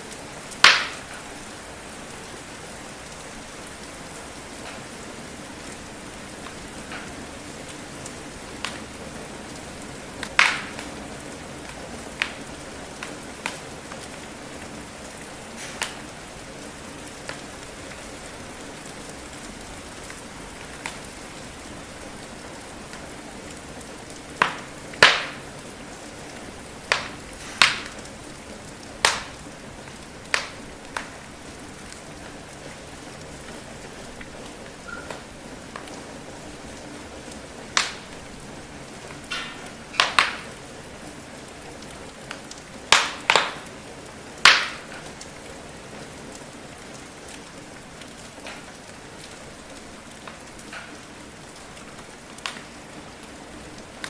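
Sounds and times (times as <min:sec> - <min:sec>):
rain hiss: 0:00.0 - 0:54.0
wood fire crackling: 0:00.0 - 0:54.0.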